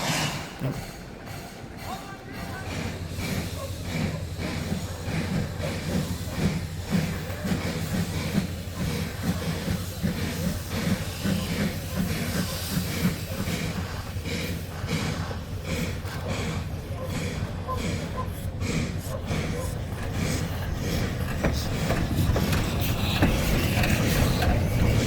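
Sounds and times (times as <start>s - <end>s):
steam hiss: 0.0s - 25.0s
steam locomotive chuffing: 0.0s - 25.0s.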